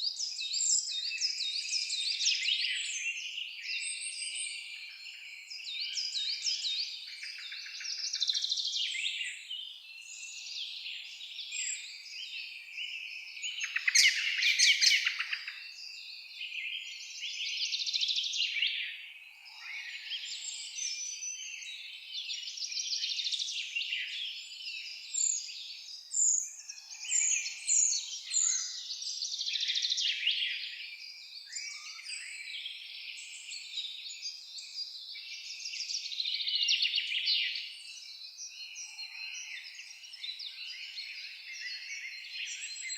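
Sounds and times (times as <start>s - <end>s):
songbirds singing and calling: 0.0s - 42.9s.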